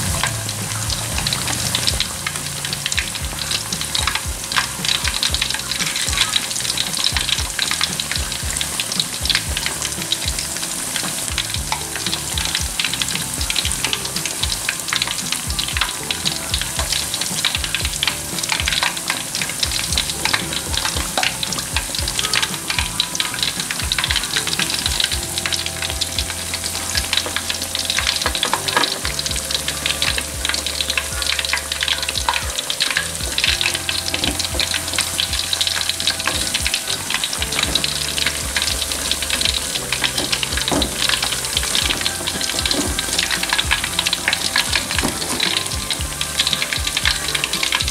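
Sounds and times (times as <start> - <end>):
crackers sizzling in hot oil: 0.0 - 47.9.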